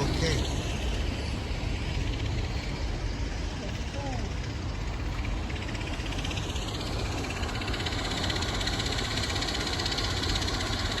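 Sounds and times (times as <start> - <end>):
distant helicopter engine and rotor: 0.0 - 11.0.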